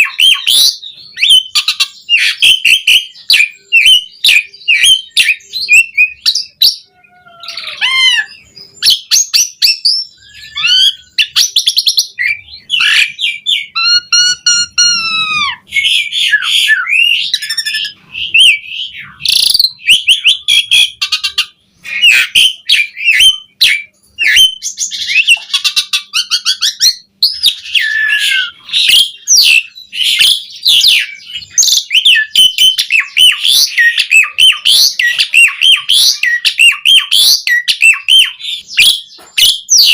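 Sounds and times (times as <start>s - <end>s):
starling singing: 0.0s - 39.9s
whistled bird notes: 0.0s - 39.9s.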